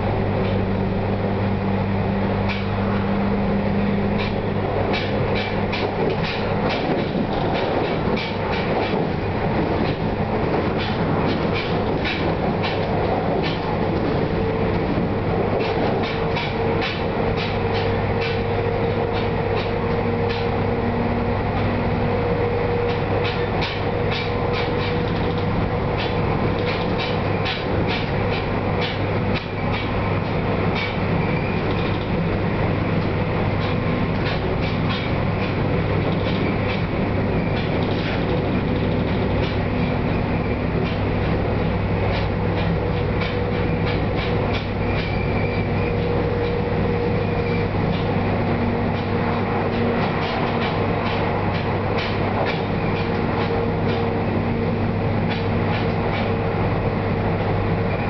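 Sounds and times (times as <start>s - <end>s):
train wheels rumbling on rails: 0.0s - 58.0s
rapid clicking of rail joints: 0.4s - 0.8s, 2.3s - 58.0s.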